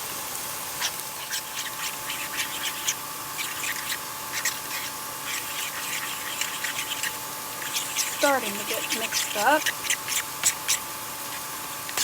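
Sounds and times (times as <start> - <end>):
spoon scraping a bowl: 0.9 - 12.0.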